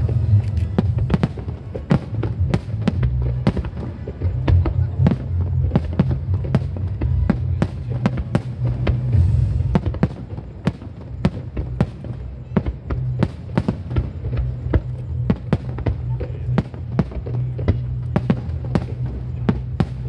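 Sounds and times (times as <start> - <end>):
continuous low rumble: 0.0 - 20.0
fireworks bangs and cracks: 0.0 - 20.0.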